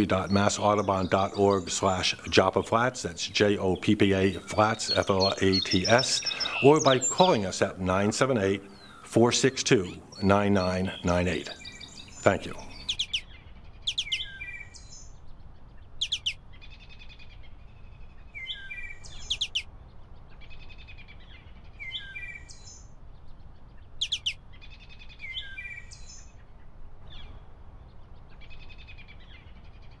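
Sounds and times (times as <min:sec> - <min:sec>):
songbirds chirping and singing: 0:00.0 - 0:30.0.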